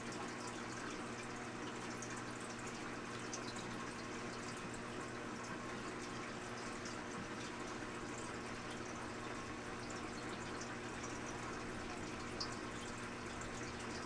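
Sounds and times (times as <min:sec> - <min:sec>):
water bubbling and trickling: 0:00.0 - 0:14.0.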